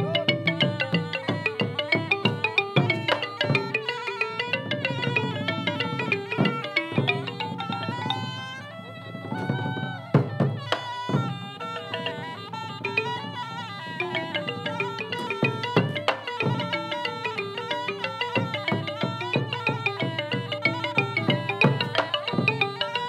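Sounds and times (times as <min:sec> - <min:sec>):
struck percussion: 0:00.0 - 0:08.6, 0:09.3 - 0:23.0
drums: 0:00.0 - 0:23.0
reed wind instrument melody: 0:00.0 - 0:23.0.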